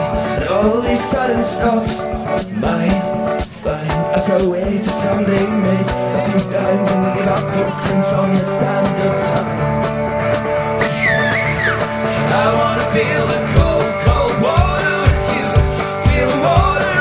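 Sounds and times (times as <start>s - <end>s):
song with steady beat and vocals: 0.0s - 17.0s.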